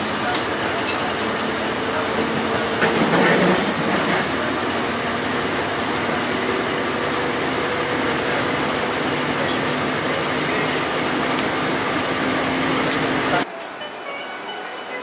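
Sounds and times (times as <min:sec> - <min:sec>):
streetcar rolling on track: 0:00.0 - 0:15.0.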